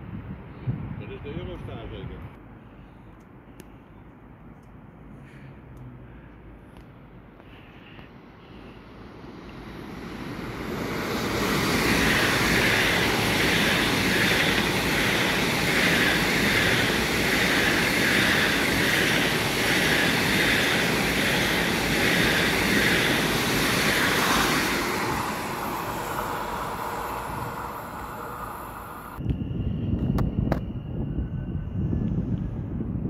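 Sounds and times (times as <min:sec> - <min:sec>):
high-speed train passing: 0:00.0 - 0:33.0.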